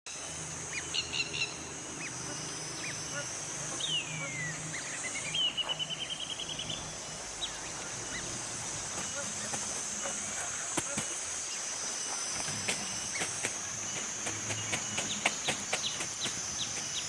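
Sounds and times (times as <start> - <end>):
birds calling: 0.1 - 17.0
high-pitched insect drone: 0.1 - 17.0.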